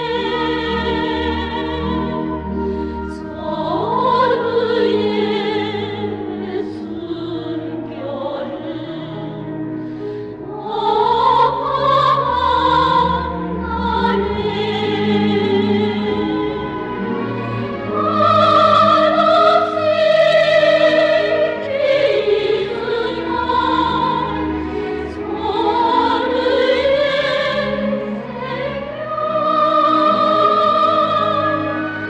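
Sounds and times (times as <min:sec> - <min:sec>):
orchestral music with operatic singing: 0:00.0 - 0:32.0.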